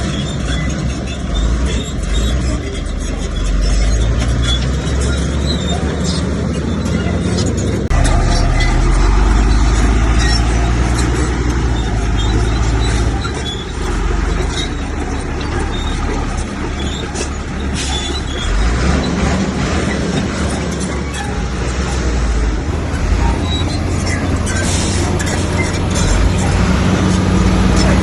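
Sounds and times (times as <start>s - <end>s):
bulldozer diesel engine under load: 0.0s - 28.0s
steel tracks clanking and squeaking: 0.0s - 28.0s.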